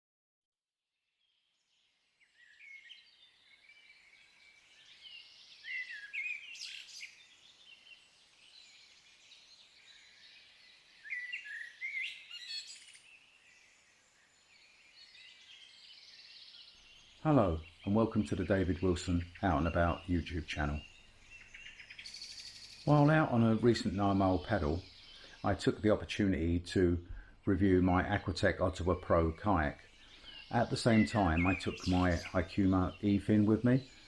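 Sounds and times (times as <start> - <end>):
faint outdoor hiss: 1.2 - 34.0
birds singing: 1.5 - 34.0.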